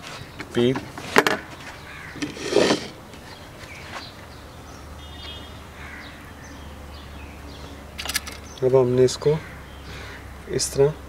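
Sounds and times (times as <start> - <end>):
bird chirp: 1.5 - 10.9.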